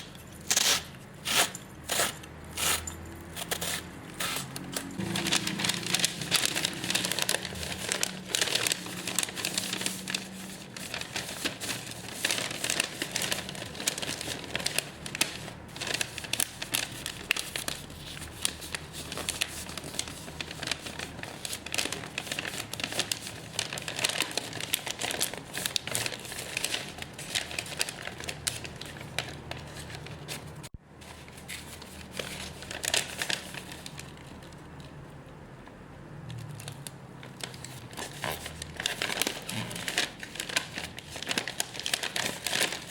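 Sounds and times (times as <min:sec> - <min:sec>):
plastic packaging crinkling: 0:03.5 - 0:30.6, 0:31.2 - 0:34.5, 0:37.4 - 0:42.9.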